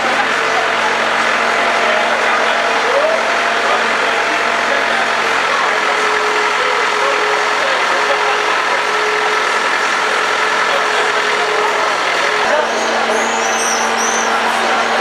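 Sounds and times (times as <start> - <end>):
people talking: 0.0 - 15.0
tractor engine idling: 0.0 - 15.0.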